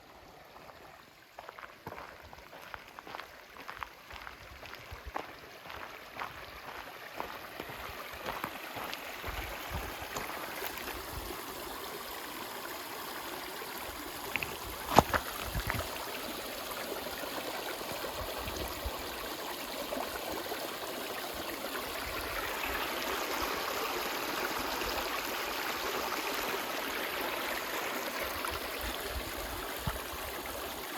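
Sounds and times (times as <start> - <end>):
creek flowing over rocks: 0.0 - 30.9.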